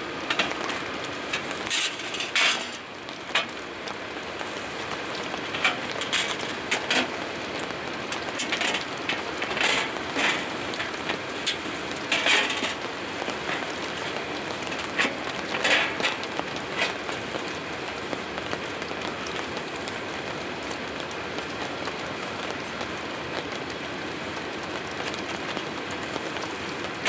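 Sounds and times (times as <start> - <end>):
rain pattering on a surface: 0.0 - 27.0.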